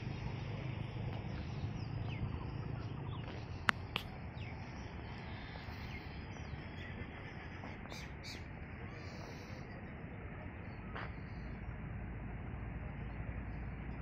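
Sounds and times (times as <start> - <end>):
birds chirping: 0.0 - 11.8
steady low hum: 0.0 - 14.0.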